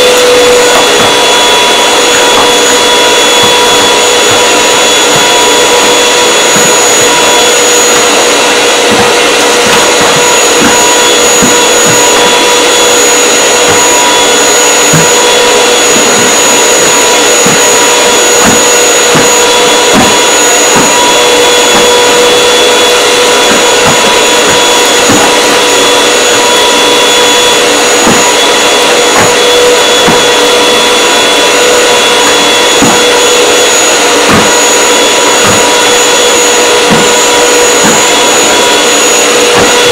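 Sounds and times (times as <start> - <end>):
nozzle bumping over carpet: 0.0 - 39.9
vacuum cleaner motor whine: 0.0 - 39.9.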